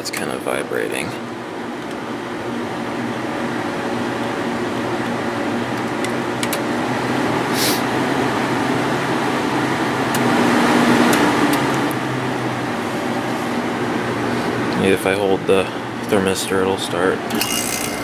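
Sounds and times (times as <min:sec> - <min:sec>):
air conditioner fan running: 0:00.0 - 0:18.0
air conditioner vibration: 0:00.0 - 0:18.0.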